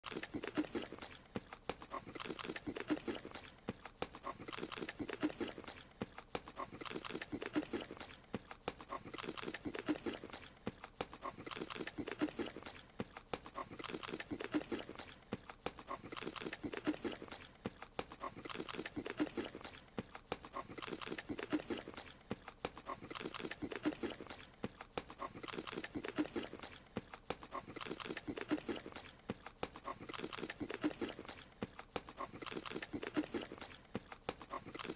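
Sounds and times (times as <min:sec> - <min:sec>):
cartoon chewing and munching: 0:00.0 - 0:34.9.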